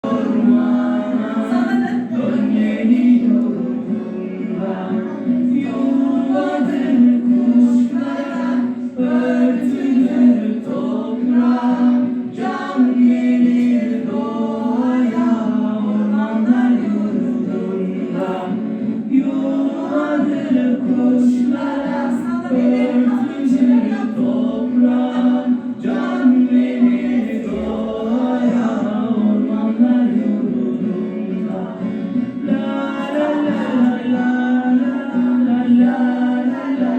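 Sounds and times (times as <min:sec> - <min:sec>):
children singing in unison: 0:00.0 - 0:36.9.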